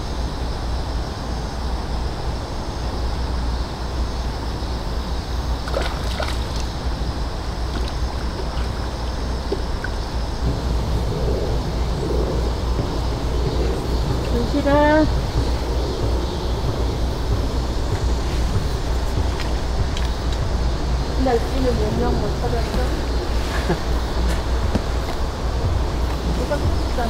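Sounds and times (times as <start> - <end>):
wind blowing over microphone: 0.0 - 27.0.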